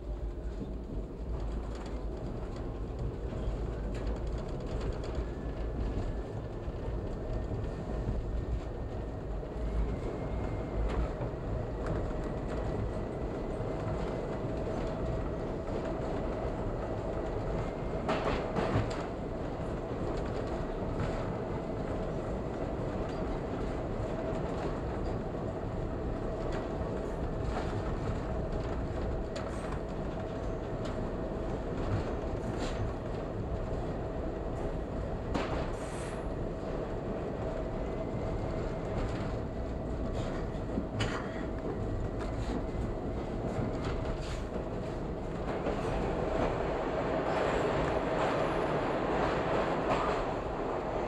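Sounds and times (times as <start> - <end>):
wheels rumbling on rail: 0.0 - 51.0.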